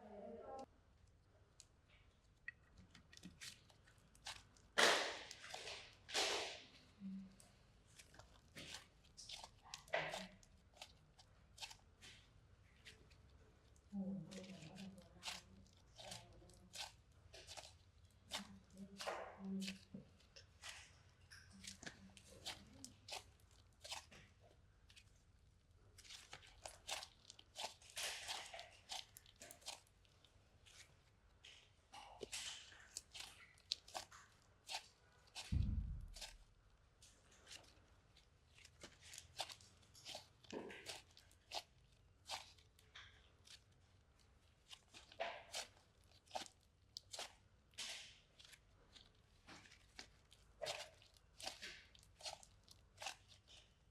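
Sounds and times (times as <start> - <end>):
slime clicks and crackles: 0.6 - 53.9
rustling scrapes: 3.1 - 25.1, 25.9 - 53.9.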